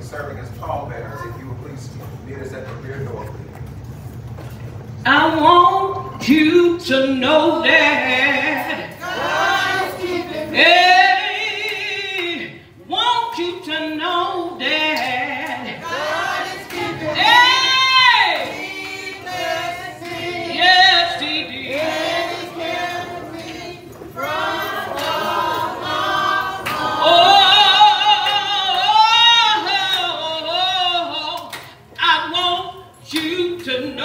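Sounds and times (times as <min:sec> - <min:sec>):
choir singing gospel: 0:06.2 - 0:34.0.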